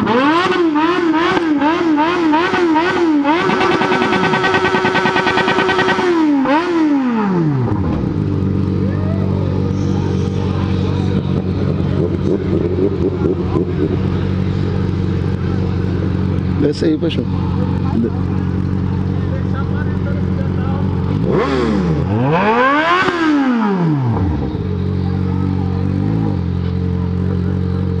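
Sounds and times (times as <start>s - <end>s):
motorcycle engine idling: 0.1s - 28.0s.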